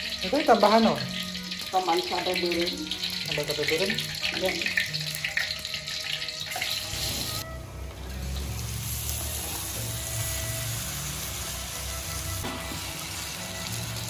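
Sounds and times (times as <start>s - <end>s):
paste sizzling in hot oil: 0.0s - 7.4s, 8.0s - 14.0s.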